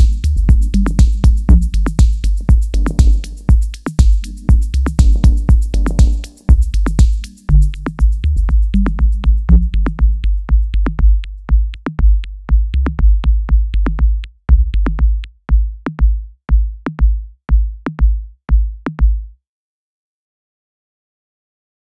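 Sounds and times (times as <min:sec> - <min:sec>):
drum machine kick: 0:00.0 - 0:19.4.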